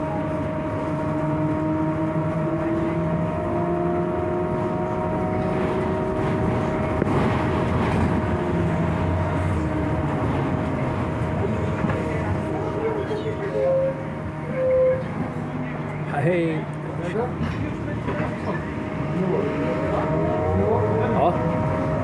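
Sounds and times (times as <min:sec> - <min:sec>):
bus rumbling and rattling: 0:00.0 - 0:22.0.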